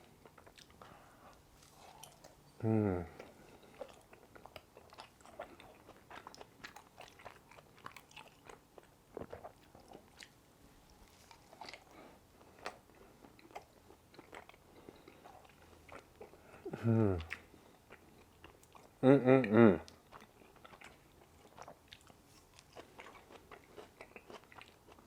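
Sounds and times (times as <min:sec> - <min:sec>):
person chewing crunchy food: 0:00.0 - 0:02.4, 0:03.0 - 0:19.0, 0:19.9 - 0:25.0.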